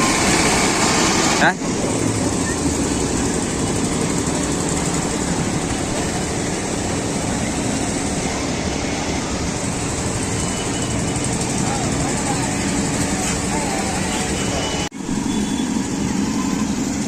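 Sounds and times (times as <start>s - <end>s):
vehicle engine and traffic noise: 0.0s - 17.0s.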